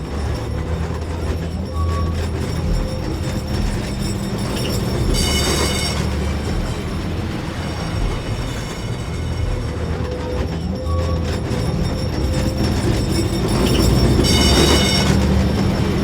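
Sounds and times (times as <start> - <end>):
tram running with low drone: 0.0 - 16.0
tram wheels squealing: 0.0 - 16.0.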